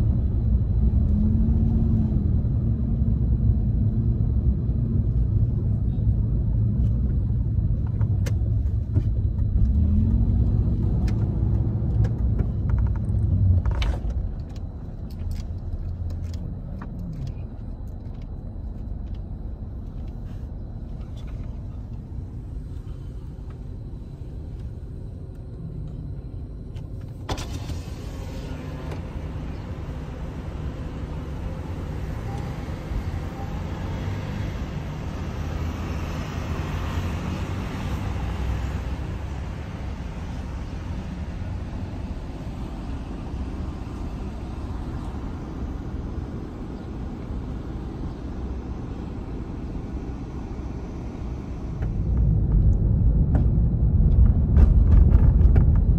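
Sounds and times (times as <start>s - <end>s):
car road rumble: 0.0s - 55.9s.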